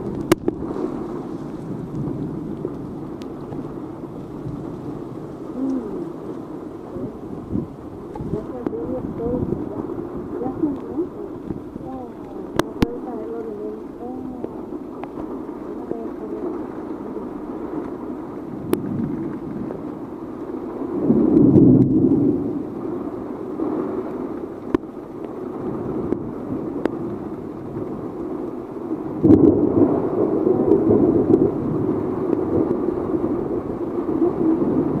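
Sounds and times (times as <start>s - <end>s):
gusty wind: 0.0s - 35.0s
heavy rain: 0.0s - 35.0s.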